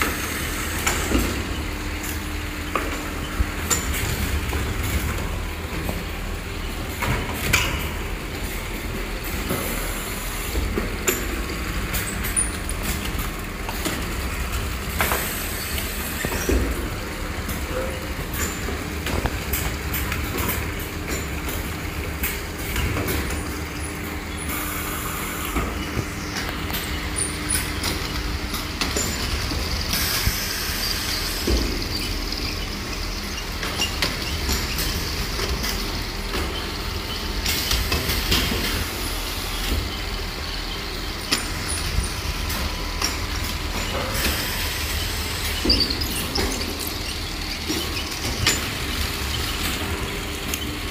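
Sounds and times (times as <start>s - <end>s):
chain conveyor rumbling and rattling: 0.0s - 50.9s
small clicks of pallets: 0.8s - 50.9s.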